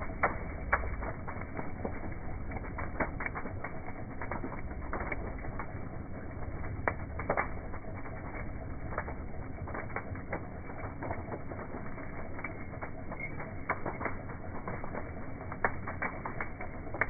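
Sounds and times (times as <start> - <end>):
bonfire crackling and popping: 0.0 - 17.0
low fire rumble: 0.0 - 17.0.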